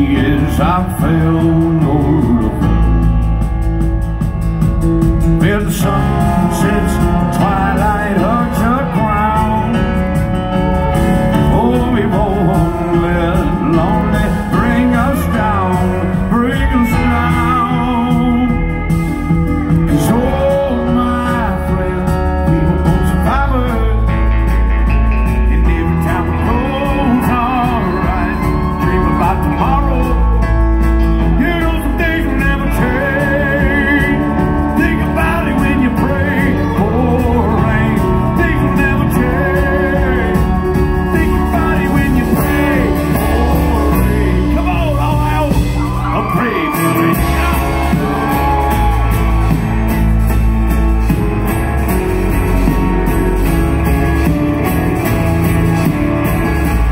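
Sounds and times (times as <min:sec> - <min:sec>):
bending lead guitar line: 0:00.0 - 0:56.9
country rock band playing: 0:00.0 - 0:56.9.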